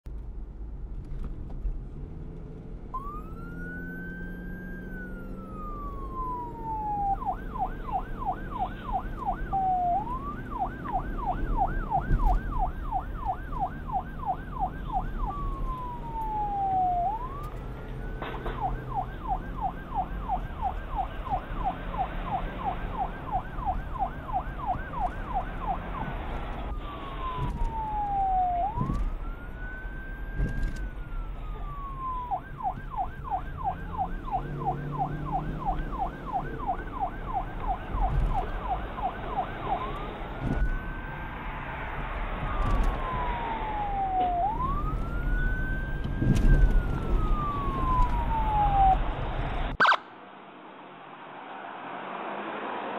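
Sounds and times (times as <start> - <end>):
police siren yelp and wail: 2.9 - 50.1.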